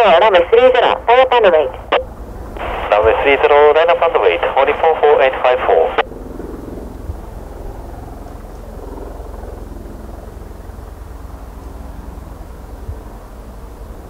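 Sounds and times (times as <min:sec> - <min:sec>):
helicopter turbine and rotor spinning: 0:00.0 - 0:14.0.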